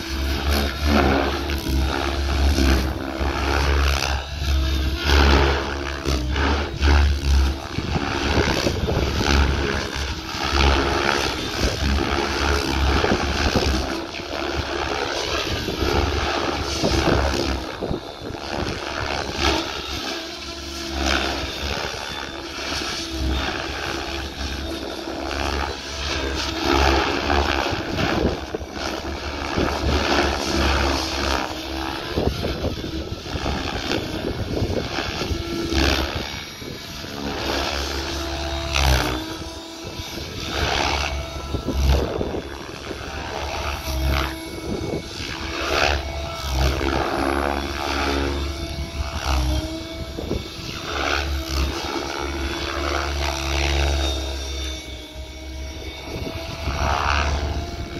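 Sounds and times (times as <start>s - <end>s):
helicopter drive whining: 0.0s - 57.9s
helicopter rotor blades swishing: 0.0s - 57.9s.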